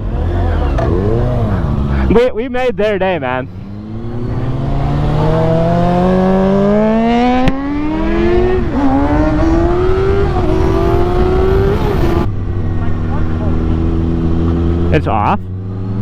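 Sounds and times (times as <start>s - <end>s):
motorcycle engine accelerating hard: 0.0s - 2.2s, 3.2s - 16.0s.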